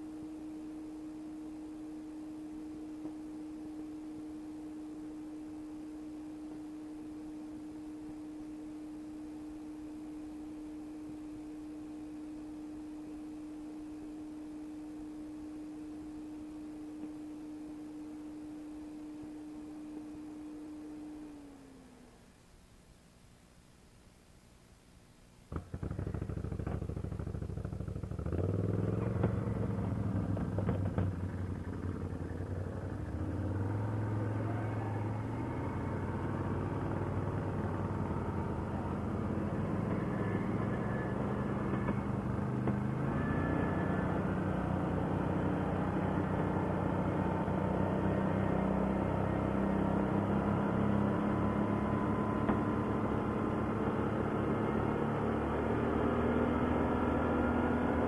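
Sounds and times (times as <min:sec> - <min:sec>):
atv engine running: 0:00.0 - 0:22.4, 0:25.5 - 0:58.0.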